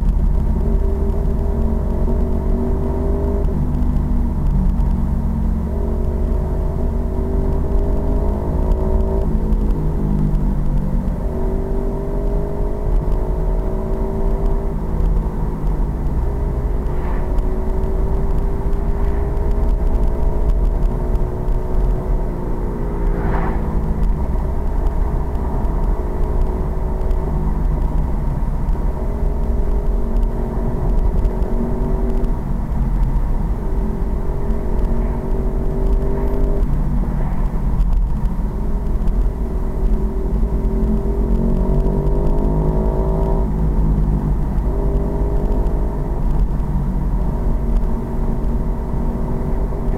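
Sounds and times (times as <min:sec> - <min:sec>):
heavy low rumble: 0:00.0 - 0:49.9.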